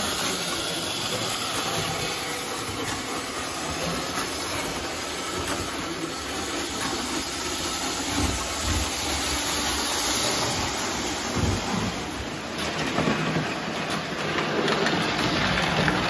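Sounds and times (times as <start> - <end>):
model trains rumbling on track: 0.0 - 16.0.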